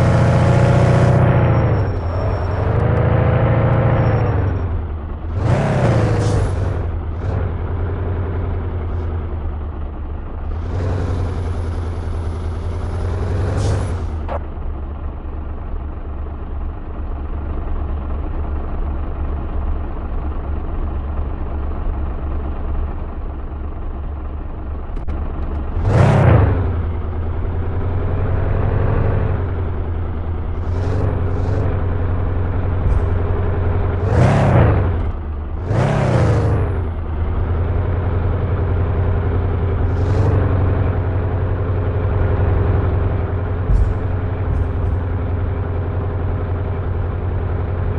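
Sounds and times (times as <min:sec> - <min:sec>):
van engine running: 0:00.0 - 0:47.9.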